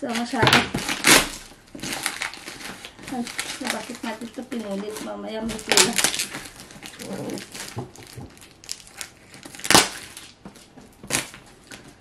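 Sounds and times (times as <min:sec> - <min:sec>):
plastic crinkling and crackling: 0:00.0 - 0:12.0.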